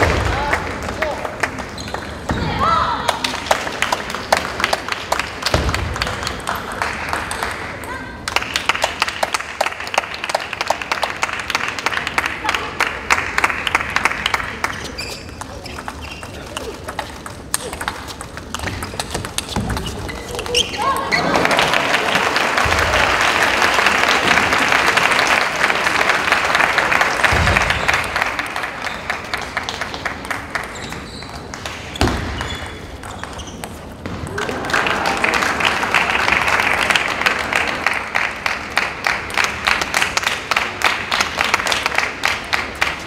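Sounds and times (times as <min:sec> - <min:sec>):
crowd applauding: 0:03.1 - 0:18.9, 0:20.3 - 0:31.9, 0:34.3 - 0:43.0.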